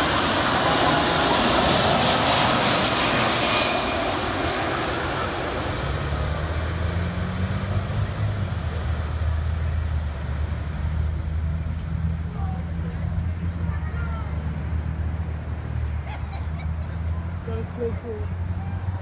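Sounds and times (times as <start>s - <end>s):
jet engines on approach: 0.0s - 19.0s.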